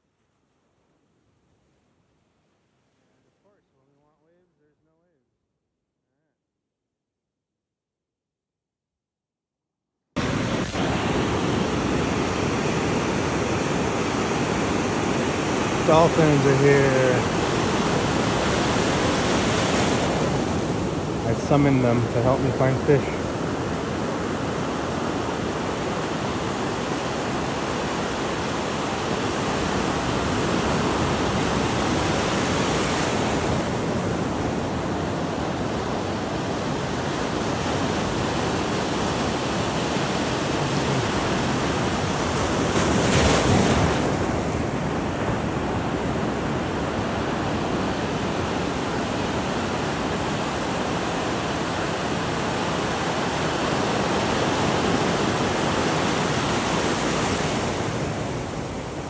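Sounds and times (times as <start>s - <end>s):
ocean surf breaking: 10.2s - 59.0s
wave crash: 10.2s - 59.0s.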